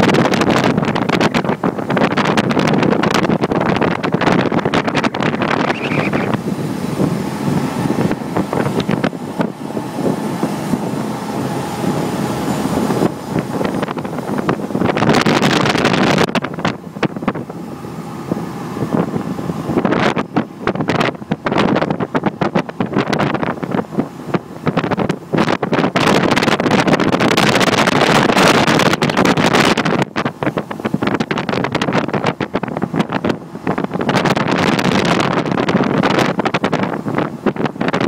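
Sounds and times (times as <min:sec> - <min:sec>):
boat engine running: 0:00.0 - 0:38.0
wind gusting over microphone: 0:00.0 - 0:38.0.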